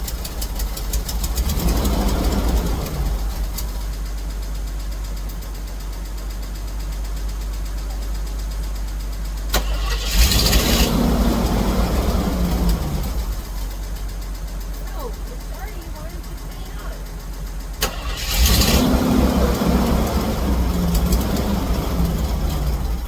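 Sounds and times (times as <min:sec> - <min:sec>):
engine idling rumble: 0:00.0 - 0:23.0.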